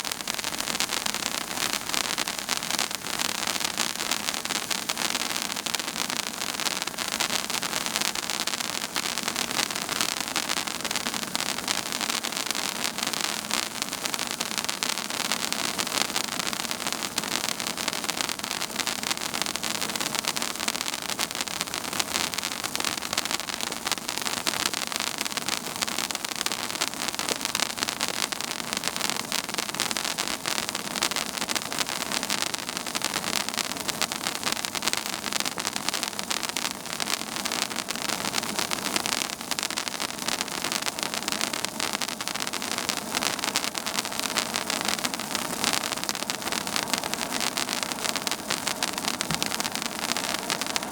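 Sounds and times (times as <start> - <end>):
firework fountain hissing and crackling: 0.0 - 50.9.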